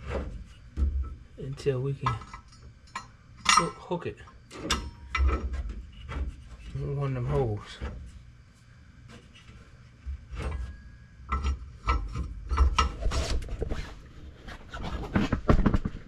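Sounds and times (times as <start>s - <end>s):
metal rod scraping and clunking: 0.0s - 15.4s.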